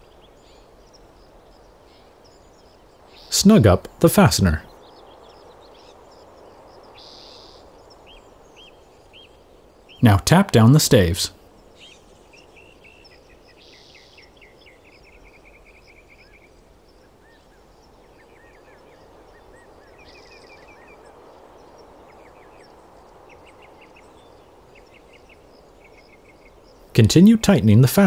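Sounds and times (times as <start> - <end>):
bird chirping trills: 0.0 - 28.0
steady background hiss: 0.0 - 28.0.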